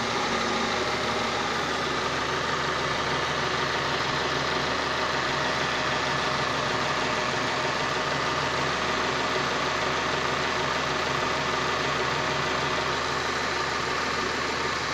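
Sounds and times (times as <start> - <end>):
car engine idling: 0.0 - 14.9
engine whine and grinding: 0.0 - 14.9.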